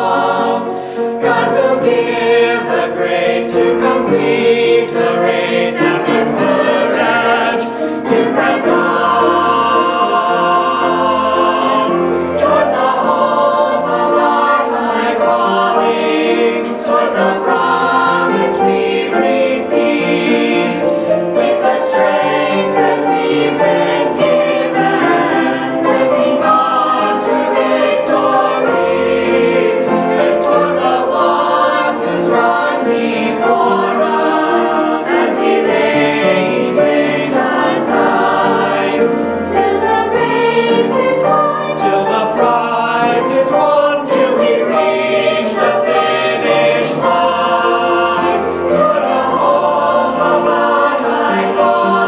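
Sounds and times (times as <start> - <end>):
children's choir singing: 0.0 - 52.0.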